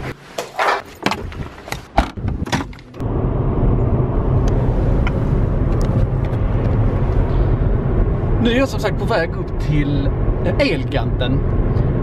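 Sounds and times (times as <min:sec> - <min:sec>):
car driving rumble from inside: 0:02.1 - 0:12.0.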